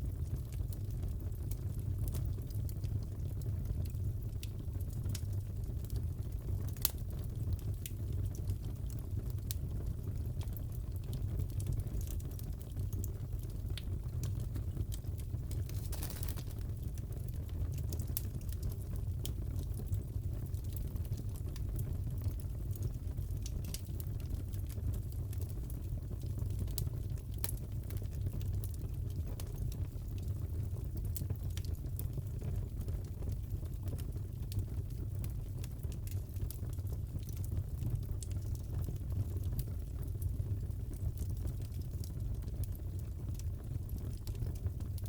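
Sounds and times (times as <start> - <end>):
low rumble of flames: 0.0 - 45.0
wood fire crackling: 0.0 - 45.0.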